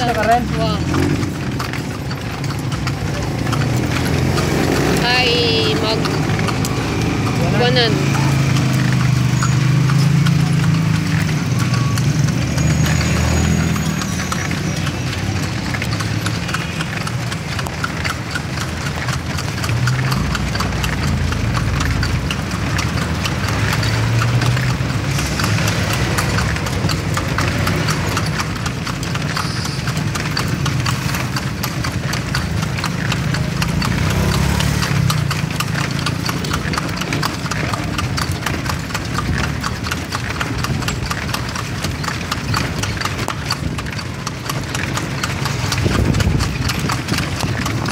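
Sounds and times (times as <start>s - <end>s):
horse hooves clip-clopping on pavement: 0.0s - 47.9s
traffic engine rumble: 0.0s - 47.9s.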